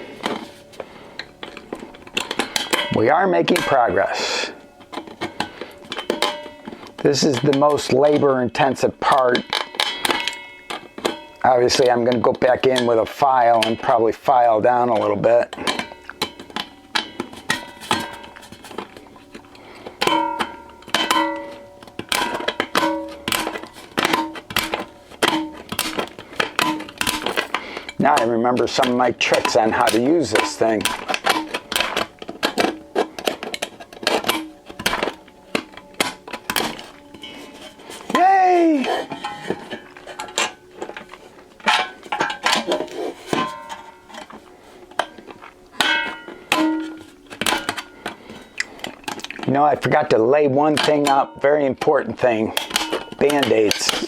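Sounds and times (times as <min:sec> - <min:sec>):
metal bin clanking and ringing: 0:00.0 - 0:54.0.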